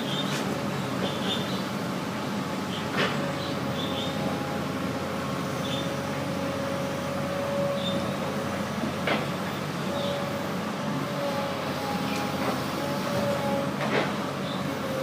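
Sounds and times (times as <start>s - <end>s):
diesel engine running with whine: 0.0s - 15.0s.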